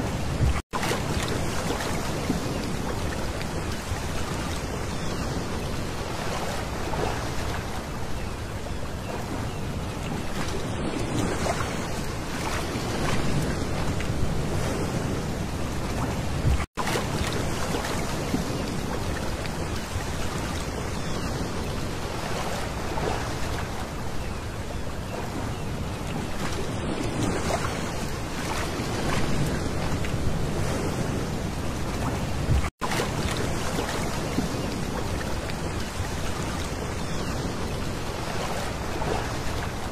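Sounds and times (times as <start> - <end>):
waves washing over pebbles: 0.0 - 8.0, 10.1 - 24.0, 26.1 - 39.9.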